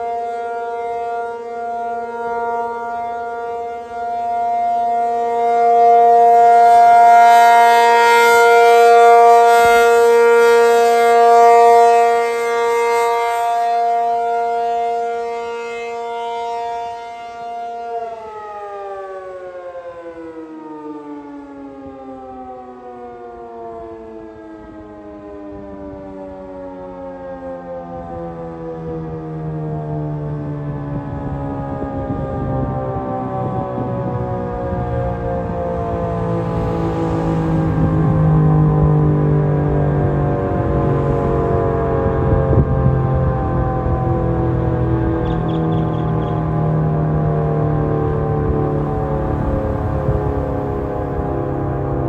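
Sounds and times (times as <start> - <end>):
siren winding down: 0.0 - 52.0
warning siren alert tone: 0.0 - 52.0.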